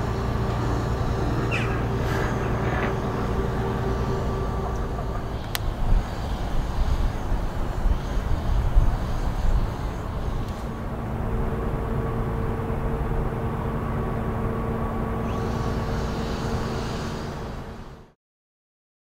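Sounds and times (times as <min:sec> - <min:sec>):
low rumble: 0:00.0 - 0:18.0
distant engine drone: 0:00.0 - 0:18.2.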